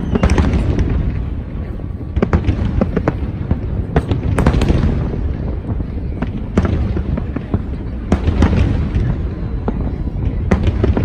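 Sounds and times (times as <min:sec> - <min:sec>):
fireworks rumbling and crackling: 0:00.0 - 0:11.0.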